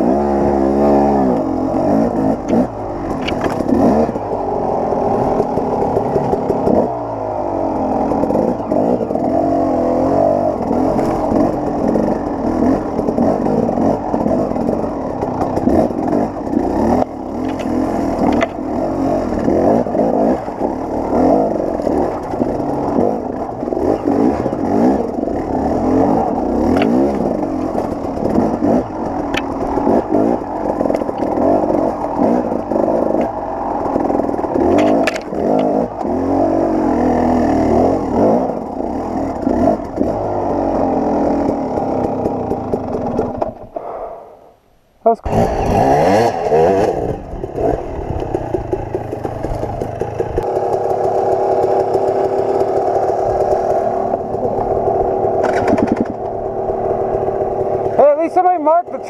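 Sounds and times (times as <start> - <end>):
dirt bike engine revving: 0.0 - 44.3, 45.1 - 59.0.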